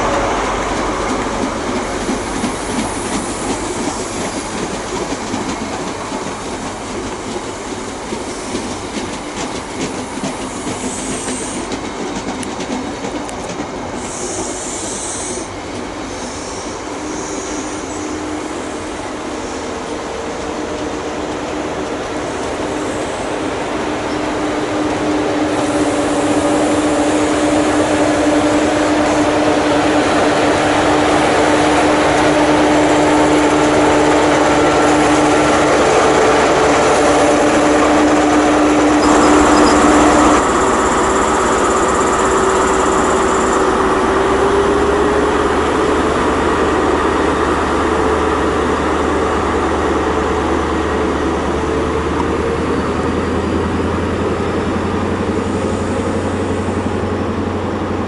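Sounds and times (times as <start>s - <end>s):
diesel train passing: 0.0s - 58.0s
train approaching: 0.0s - 58.0s.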